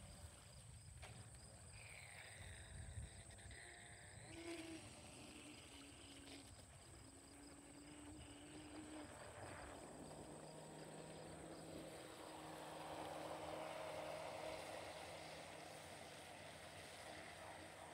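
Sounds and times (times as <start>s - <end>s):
model boat motor humming: 0.0s - 17.9s.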